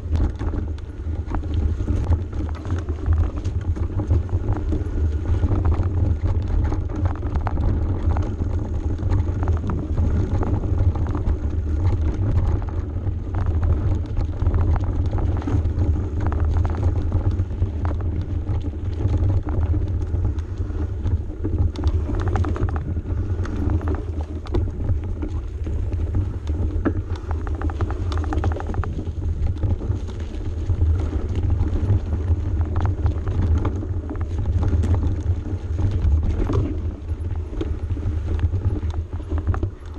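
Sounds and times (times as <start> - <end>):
bike rattles and knocks: 0.0 - 39.9
low rumble of tyre vibration: 0.0 - 39.9
wind on microphone: 0.0 - 39.9.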